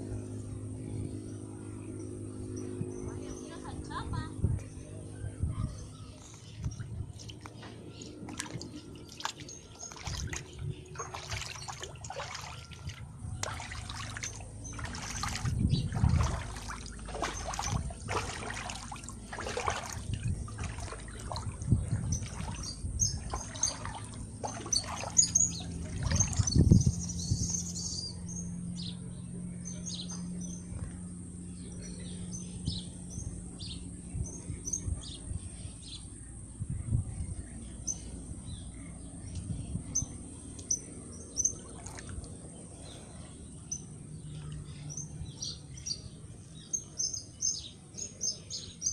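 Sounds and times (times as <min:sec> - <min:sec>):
low rumble: 0:00.0 - 0:45.4
small birds chirping: 0:00.4 - 0:48.9.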